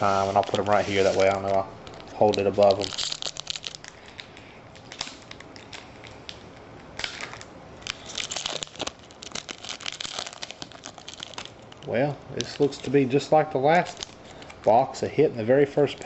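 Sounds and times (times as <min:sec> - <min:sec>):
foil wrapper crinkling and tearing: 0:00.0 - 0:14.7.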